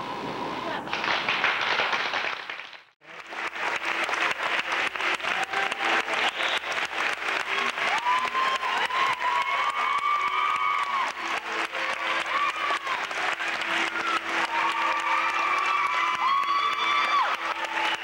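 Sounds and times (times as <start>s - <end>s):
audience clapping: 0.7s - 18.0s.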